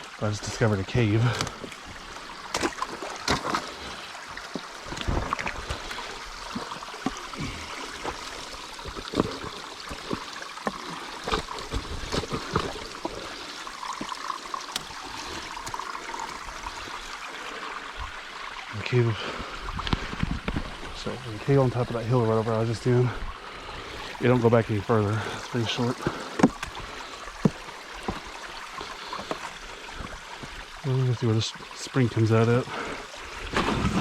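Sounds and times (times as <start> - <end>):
stream running: 0.0 - 34.0.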